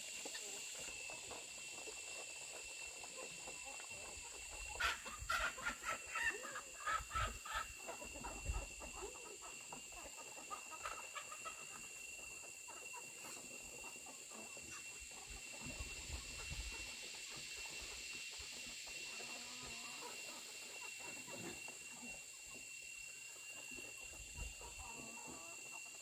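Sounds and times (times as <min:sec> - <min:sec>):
chickens clucking: 0:00.0 - 0:26.0
steady high-pitched whine: 0:00.0 - 0:26.0.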